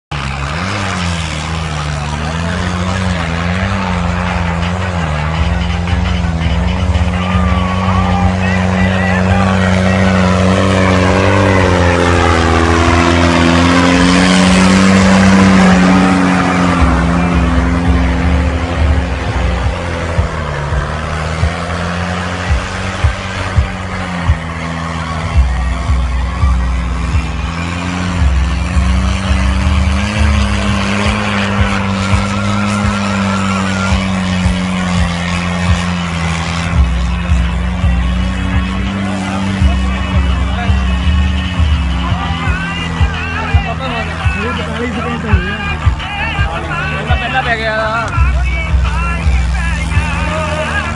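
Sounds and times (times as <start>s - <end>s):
tractor diesel engine at high revs: 0.1s - 50.9s.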